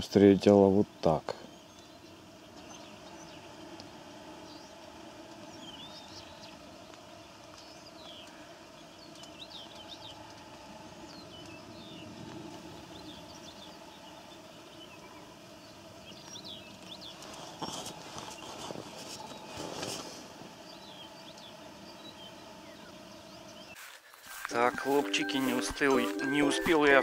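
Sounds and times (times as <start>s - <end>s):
mosquitoes whining: 0.0s - 27.0s
small birds chirping: 0.0s - 27.0s.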